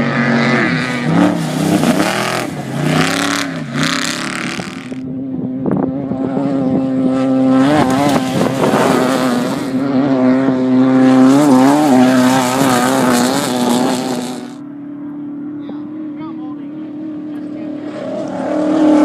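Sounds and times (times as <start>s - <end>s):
race engine revving past: 0.0s - 14.7s, 15.8s - 19.0s.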